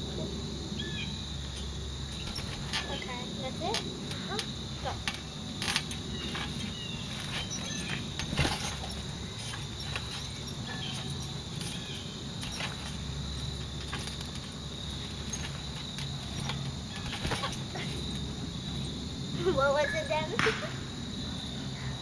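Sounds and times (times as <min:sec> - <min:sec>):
crickets chirping: 0:00.0 - 0:22.0
trampoline springs creaking: 0:01.1 - 0:21.6.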